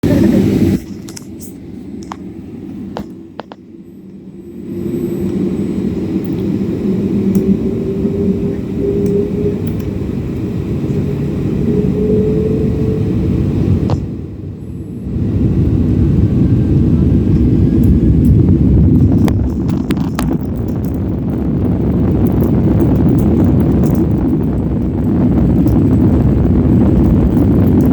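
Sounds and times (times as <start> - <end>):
jet engines whining: 0.0 - 27.9
rumble of takeoff roll: 0.0 - 27.9.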